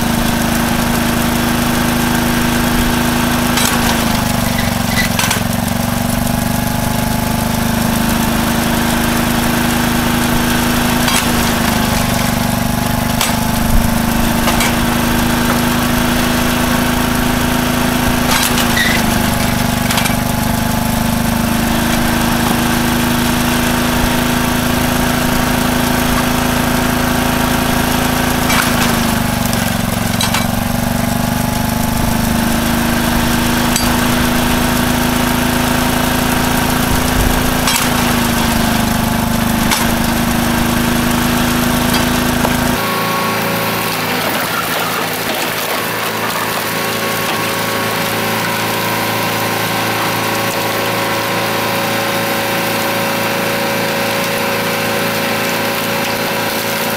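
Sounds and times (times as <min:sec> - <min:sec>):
log-splitting machine engine hum: 0:00.0 - 0:56.9
small gas engine running: 0:00.0 - 0:56.9.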